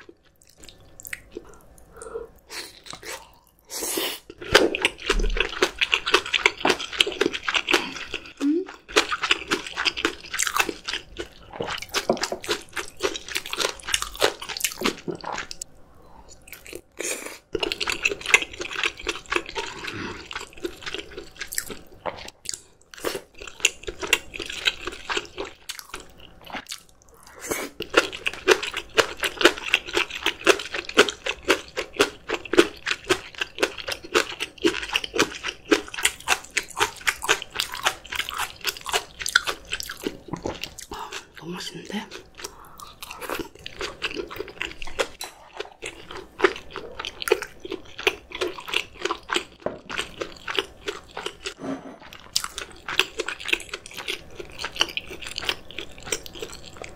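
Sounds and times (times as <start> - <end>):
wet chewing and crunching: 0.0 - 2.1, 4.3 - 15.7, 16.3 - 56.9.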